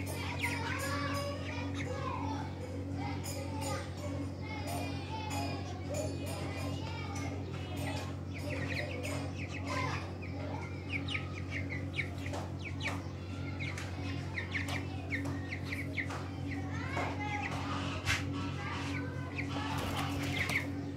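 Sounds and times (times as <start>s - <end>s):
chicks peeping: 0.0s - 20.9s
steady low hum: 0.0s - 20.9s.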